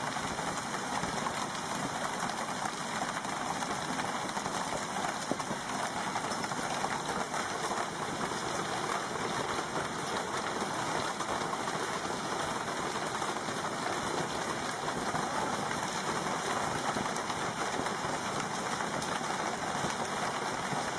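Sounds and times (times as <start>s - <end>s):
hail pelting ground and car: 0.1s - 20.9s.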